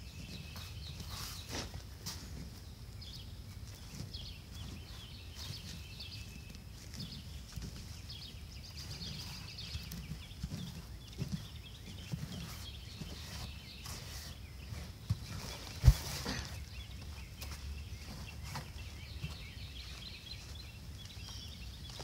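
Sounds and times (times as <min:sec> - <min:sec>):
hand scraping soil in plastic container: 0:00.0 - 0:21.4.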